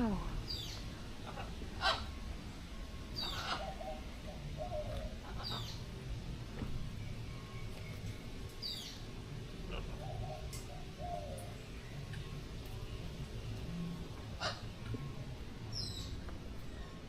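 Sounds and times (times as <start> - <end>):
low bird warbling: 0.0 - 6.1, 7.0 - 16.2.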